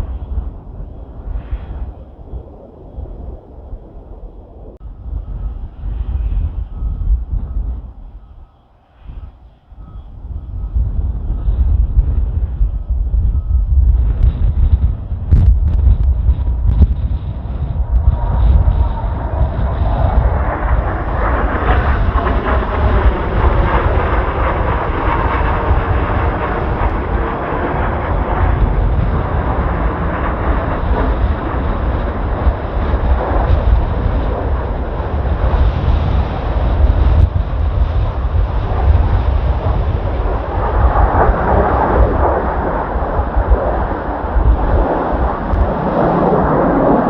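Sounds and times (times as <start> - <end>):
jet planes flying past: 0.0 - 47.0
wind buffeting microphone: 0.0 - 47.0.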